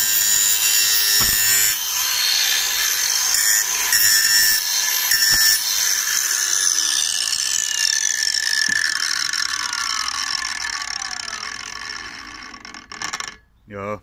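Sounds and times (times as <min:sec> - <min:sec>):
angle grinder spinning down: 0:00.0 - 0:13.5.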